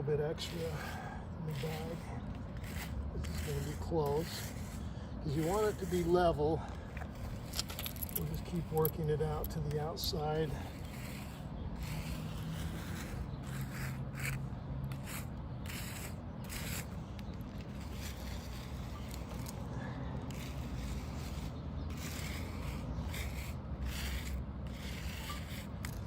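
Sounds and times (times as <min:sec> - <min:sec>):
tool scraping through asphalt: 0:00.0 - 0:26.0.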